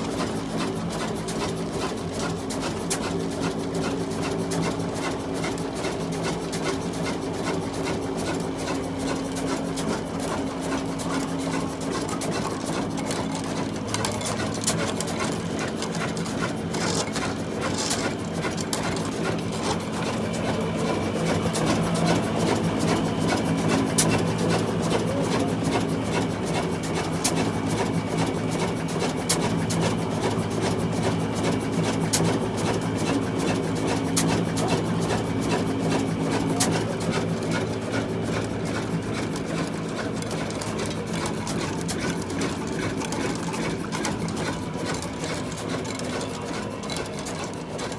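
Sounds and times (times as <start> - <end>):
old diesel engine clattering: 0.0 - 47.9.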